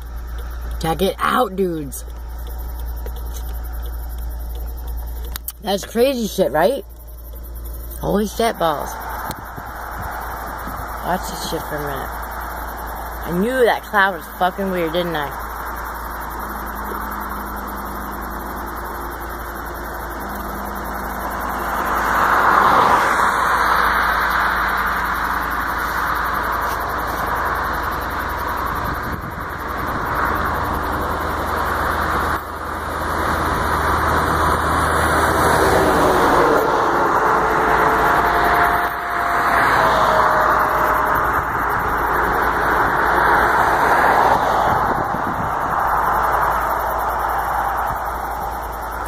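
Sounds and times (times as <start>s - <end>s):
road traffic rushing: 0.0s - 49.0s.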